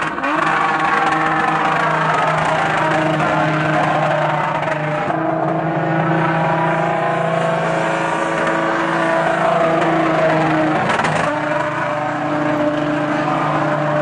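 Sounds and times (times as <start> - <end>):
engine at high revs: 0.0 - 14.0
tyres spinning: 0.0 - 14.0.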